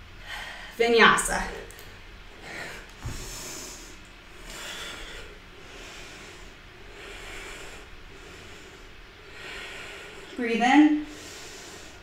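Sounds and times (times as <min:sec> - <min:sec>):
woman breathing: 0:00.0 - 0:00.8, 0:01.8 - 0:10.4, 0:11.0 - 0:12.0.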